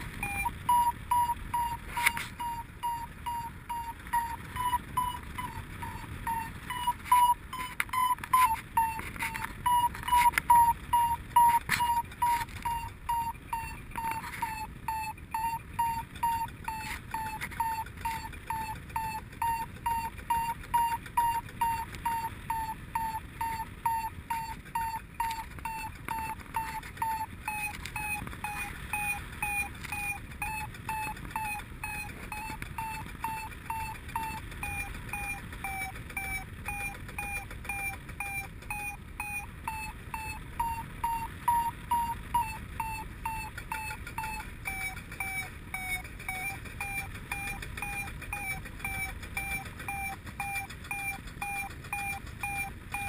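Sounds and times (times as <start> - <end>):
variometer short beeps: 0.0 - 53.0.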